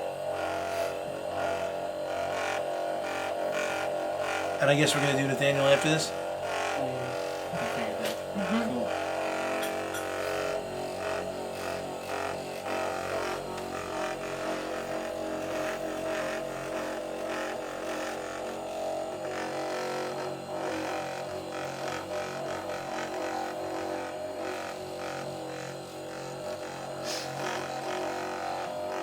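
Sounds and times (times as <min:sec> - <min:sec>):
massager humming: 0:00.0 - 0:29.0.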